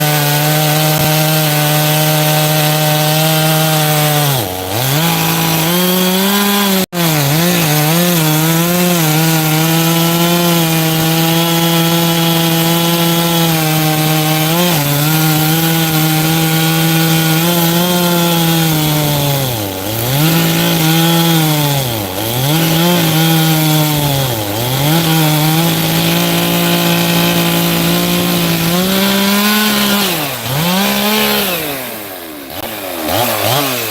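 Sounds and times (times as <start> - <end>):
chainsaw cutting firewood: 0.0 - 33.9.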